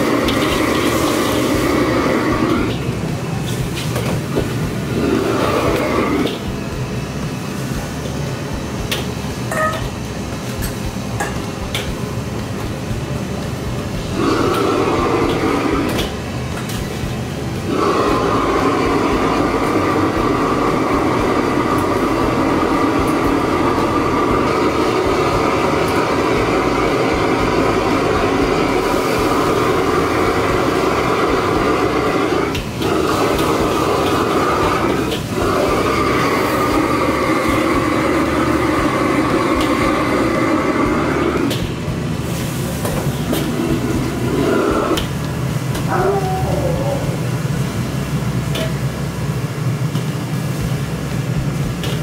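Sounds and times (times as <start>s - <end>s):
gas burner flame roaring: 0.0s - 52.0s
wok sizzling: 0.0s - 52.0s.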